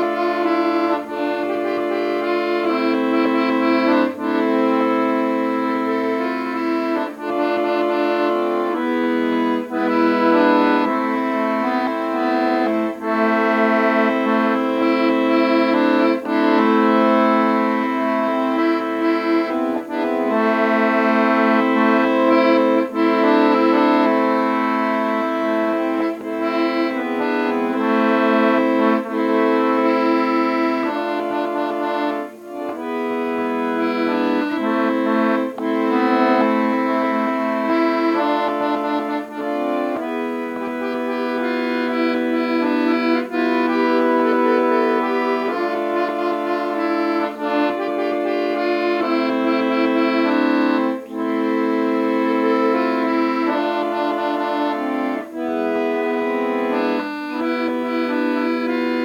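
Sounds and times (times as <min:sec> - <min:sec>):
accordion melody over chords: 0:00.0 - 0:59.0.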